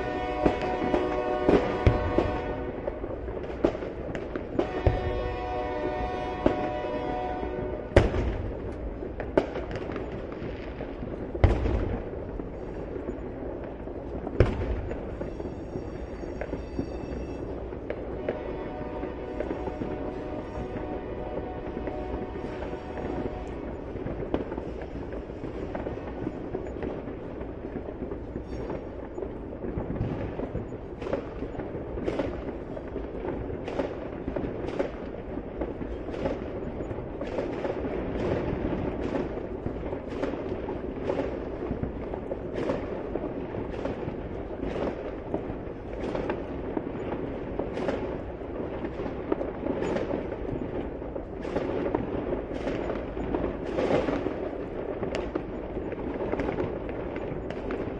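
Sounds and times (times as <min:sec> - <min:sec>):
fireworks bangs: 0:00.0 - 0:57.9.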